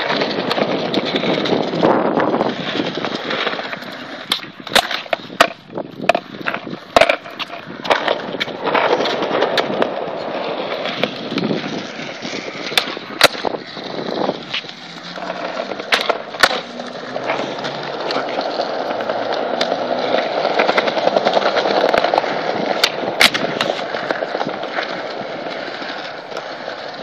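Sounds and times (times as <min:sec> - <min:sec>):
skateboard clacks: 0:00.0 - 0:27.0
skateboard wheels rolling on paving: 0:00.0 - 0:27.0.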